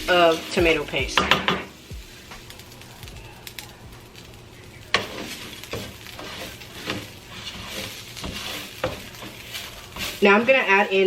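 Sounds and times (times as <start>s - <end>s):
food sizzling in a pan: 0.0s - 11.0s
utensil stirring and scraping: 0.1s - 10.8s.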